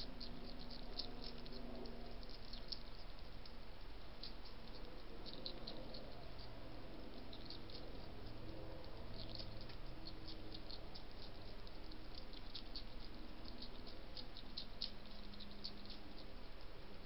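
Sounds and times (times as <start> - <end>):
hedgehog crunching kibble: 0.0 - 17.0
steady background hiss: 0.0 - 17.0.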